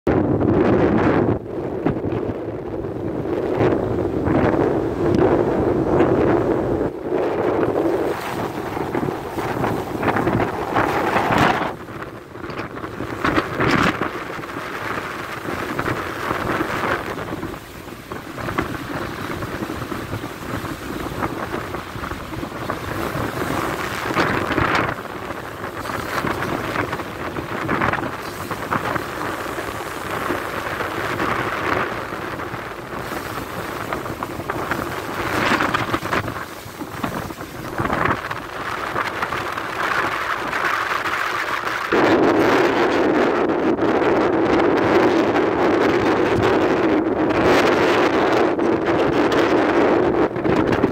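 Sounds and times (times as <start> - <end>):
wind buffeting microphone: 0.0 - 50.9
sea rushing along ship hull: 0.1 - 50.9.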